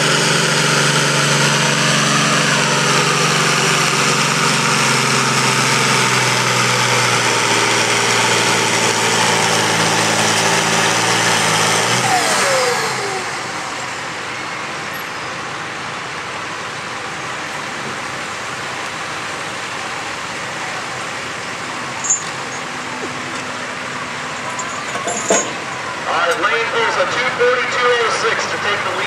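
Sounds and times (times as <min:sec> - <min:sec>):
tractor engine running hard: 0:00.0 - 0:29.0.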